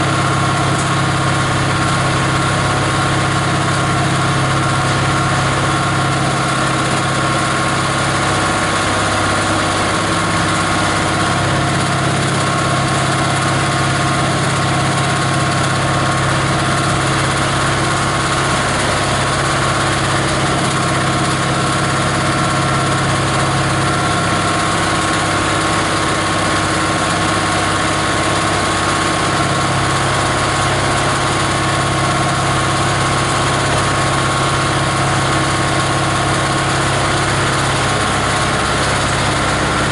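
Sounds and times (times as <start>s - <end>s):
diesel engine running: 0.0s - 39.9s
plastic grinder: 0.0s - 39.9s.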